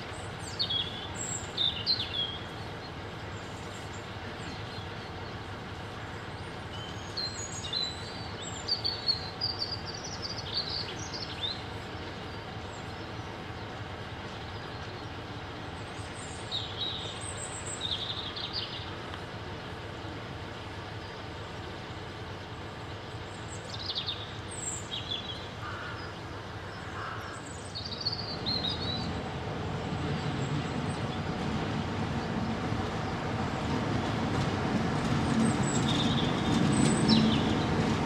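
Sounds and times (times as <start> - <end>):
diesel locomotive idling: 0.0 - 38.0
small birds chirping: 0.0 - 38.0.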